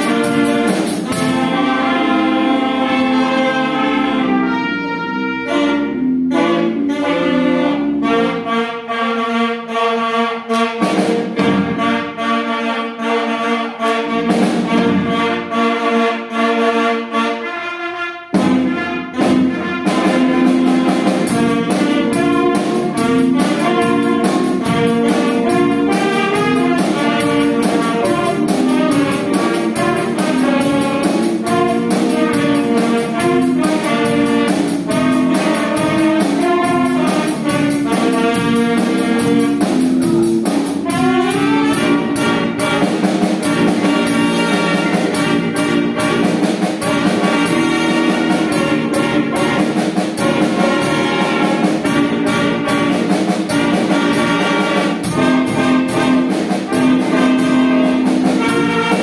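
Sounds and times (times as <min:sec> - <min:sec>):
bass guitar: 0:00.0 - 0:08.9, 0:18.3 - 0:59.0
drum kit beat: 0:00.0 - 0:09.7, 0:10.4 - 0:13.3, 0:14.0 - 0:16.3, 0:18.2 - 0:59.0
saxophone ensemble playing: 0:00.0 - 0:59.0
sustained saxophone chords: 0:00.0 - 0:59.0.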